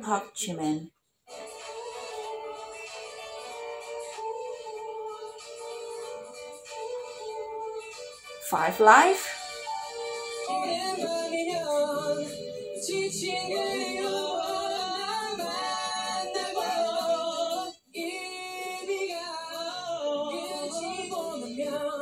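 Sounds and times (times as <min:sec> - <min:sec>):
music: 0:01.2 - 0:22.0
person singing: 0:01.3 - 0:08.0, 0:09.3 - 0:22.0.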